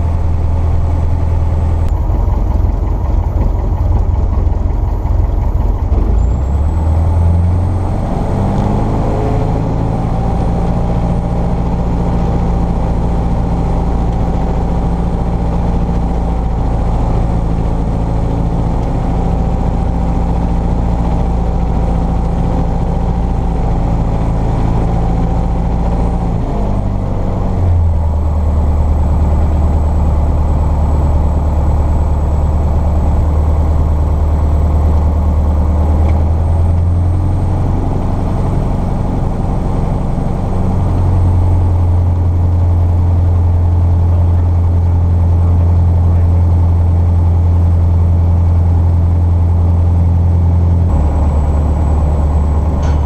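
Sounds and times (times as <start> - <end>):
aircraft engine and propeller: 0.0 - 53.0.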